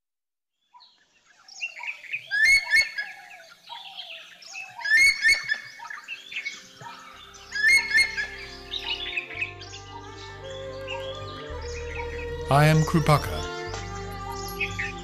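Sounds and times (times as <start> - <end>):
birds calling and chirping: 0.6 - 15.0.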